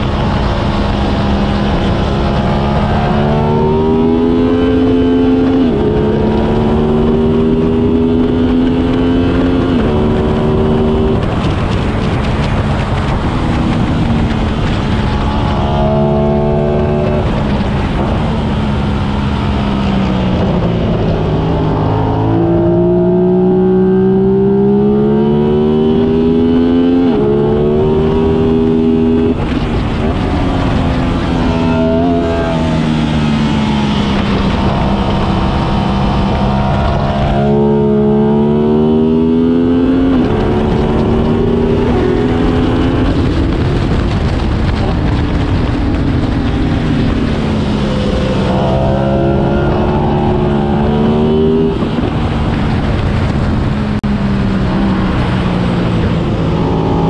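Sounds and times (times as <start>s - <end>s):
motorcycle engine accelerating: 0.0s - 57.0s
wind rush: 0.0s - 57.0s.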